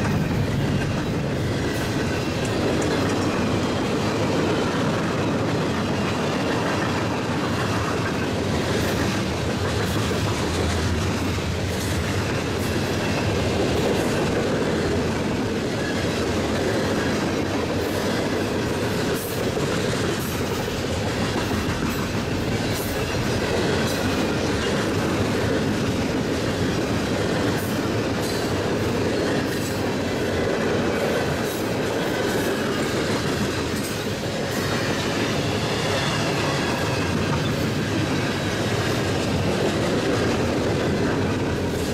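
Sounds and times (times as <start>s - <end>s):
freight train rumbling past: 0.0s - 41.9s
wheels clicking over rail joints: 0.0s - 41.9s.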